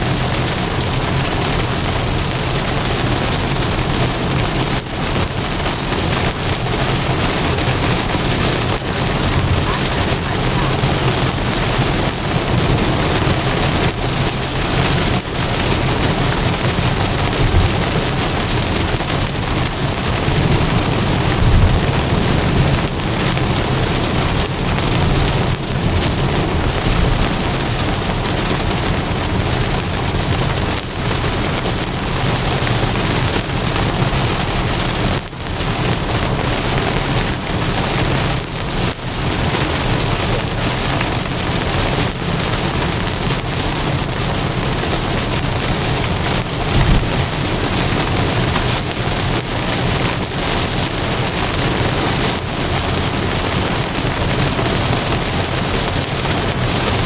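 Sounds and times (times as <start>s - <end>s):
low road rumble: 0.0s - 57.0s
rain and tyre spray hiss: 0.0s - 57.0s.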